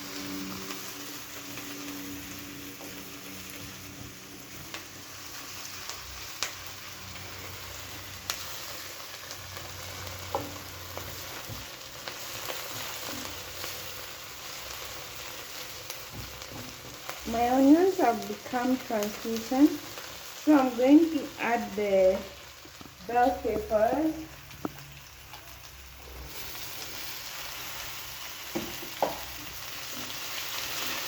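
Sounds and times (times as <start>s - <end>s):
onions sizzling in a pan: 0.0s - 31.0s.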